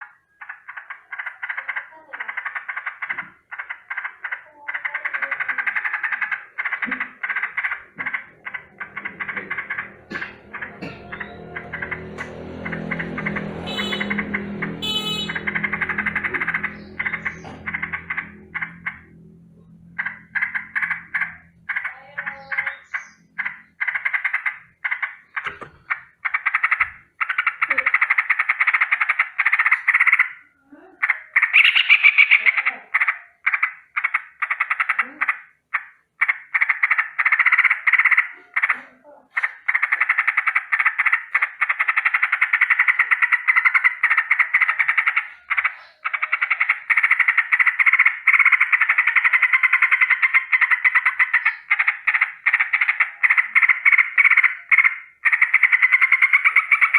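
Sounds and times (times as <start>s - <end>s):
bulbul rattling alarm call: 0.4s - 30.4s, 39.4s - 56.9s.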